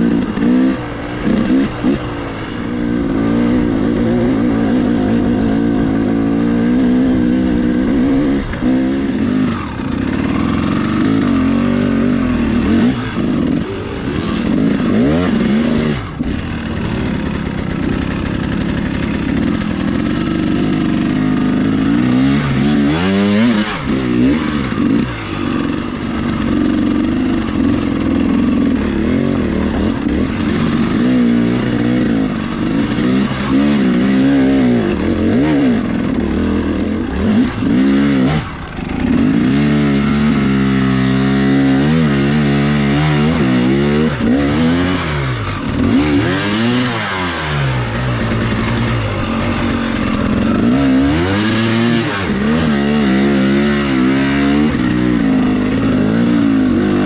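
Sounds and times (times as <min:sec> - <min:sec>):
two-stroke dirt bike engine revving: 0:00.0 - 0:57.0.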